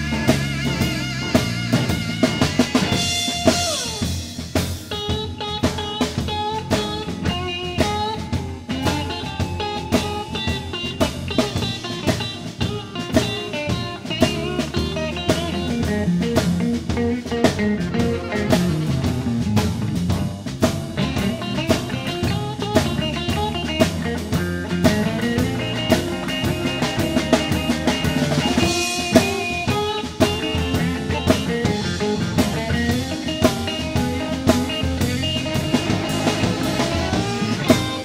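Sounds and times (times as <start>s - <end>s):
drum kit steady beat: 0.0s - 38.0s
electric guitar: 0.0s - 38.0s.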